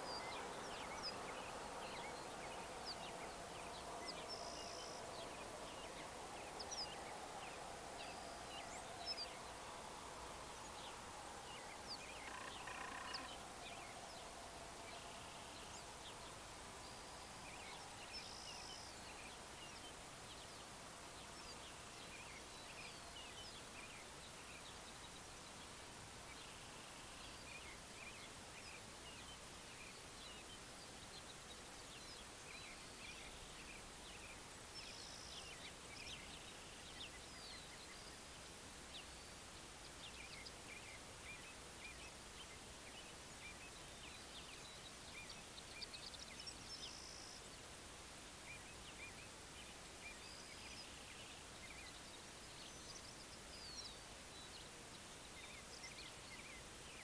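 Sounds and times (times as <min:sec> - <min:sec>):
small birds chirping: 0:00.0 - 0:57.0
steady background hiss: 0:00.0 - 0:57.0.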